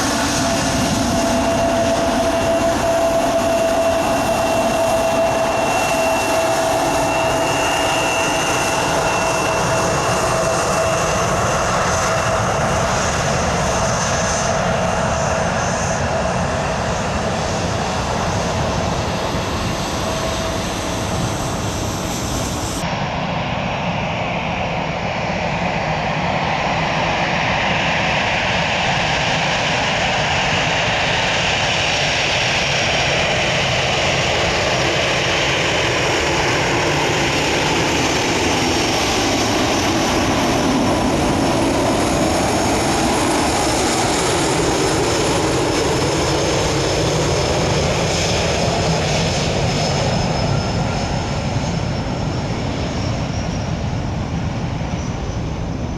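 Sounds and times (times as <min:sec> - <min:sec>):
high jet engine whine: 0:00.0 - 0:55.9
jet engines rumbling: 0:00.0 - 0:55.9.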